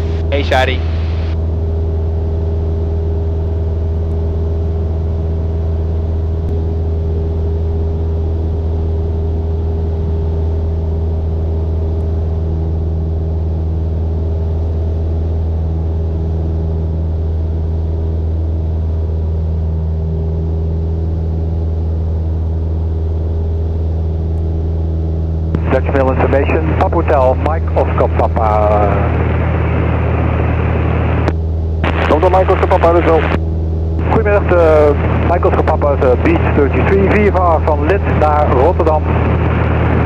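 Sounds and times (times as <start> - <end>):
aircraft engine droning in cabin: 0.0 - 40.0.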